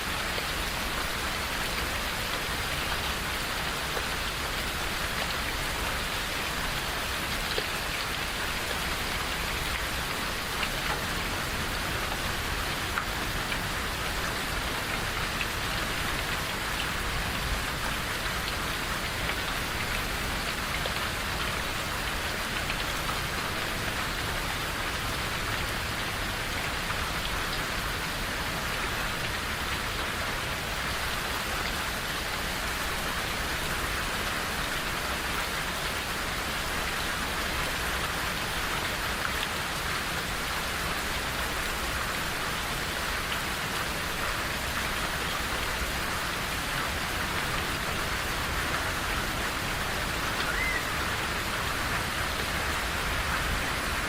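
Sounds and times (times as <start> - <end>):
rain falling in a forest: 0.0 - 54.0.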